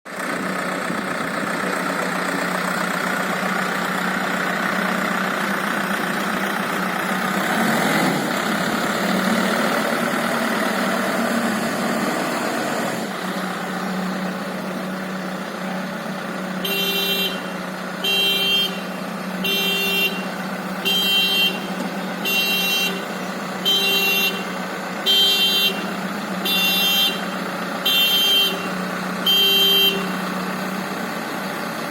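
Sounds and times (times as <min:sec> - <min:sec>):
diesel engine running: 0:00.1 - 0:31.9.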